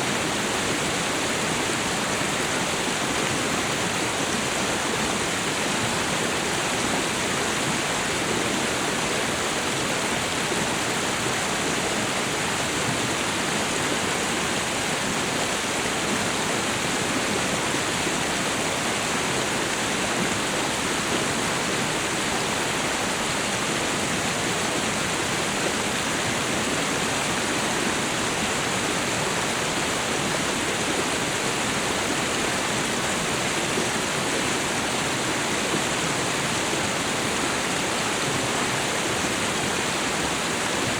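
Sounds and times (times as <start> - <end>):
waterfall and river rushing: 0.0 - 40.9.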